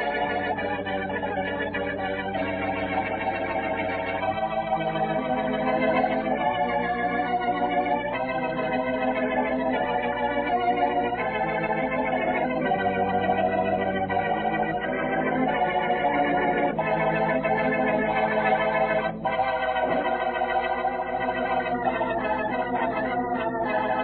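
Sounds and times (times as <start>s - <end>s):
organ chords: 0.0s - 24.0s.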